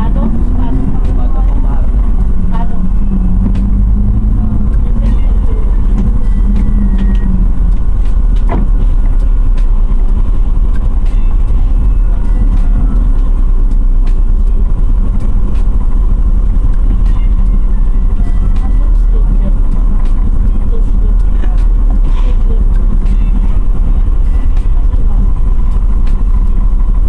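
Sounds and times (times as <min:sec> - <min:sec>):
bus engine and road rumble: 0:00.0 - 0:27.0
hum: 0:00.0 - 0:27.0.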